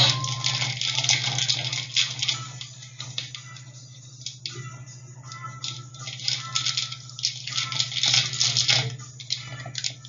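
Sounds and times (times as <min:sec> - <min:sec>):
plastic pieces rattling: 0:00.0 - 0:04.6, 0:05.3 - 0:10.0.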